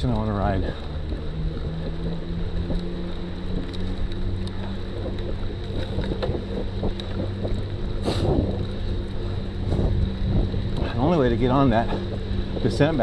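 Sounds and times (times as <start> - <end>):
bike clicks and rattles: 0.0 - 13.0
bike tyres rolling on dirt: 0.0 - 13.0
wind buffeting microphone: 0.0 - 13.0.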